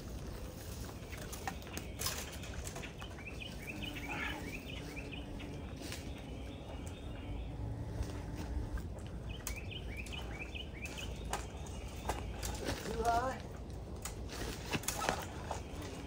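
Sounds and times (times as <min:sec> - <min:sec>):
birds chirping: 0:00.0 - 0:16.0
low wind rumble: 0:00.0 - 0:16.0.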